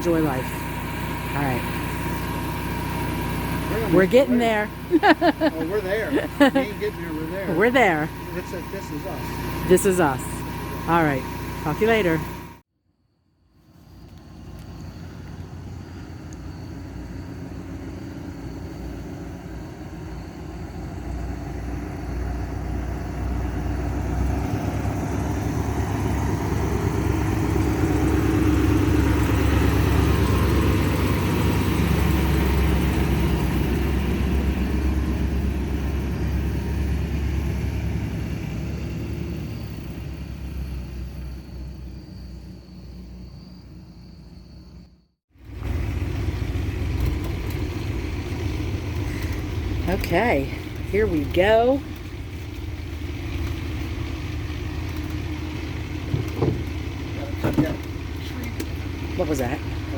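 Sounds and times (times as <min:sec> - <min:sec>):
motor vehicle rumbling: 0:00.0 - 0:12.6, 0:13.5 - 0:59.9.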